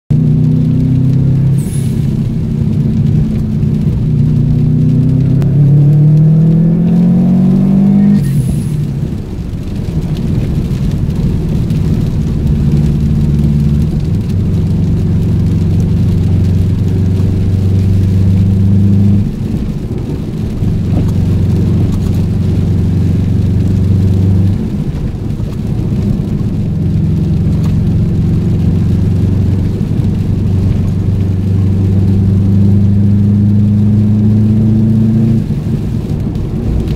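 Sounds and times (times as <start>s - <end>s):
car engine accelerating: 0.1s - 36.9s.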